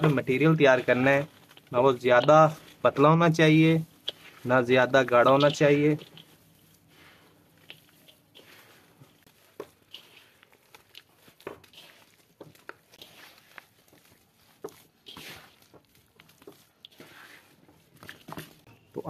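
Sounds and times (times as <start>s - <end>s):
hands kneading wet mud: 0.0s - 19.0s.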